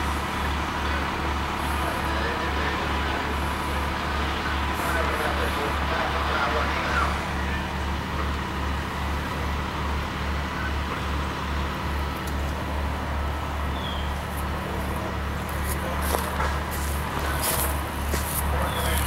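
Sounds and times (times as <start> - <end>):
large engine throbbing hum: 0.0 - 19.0.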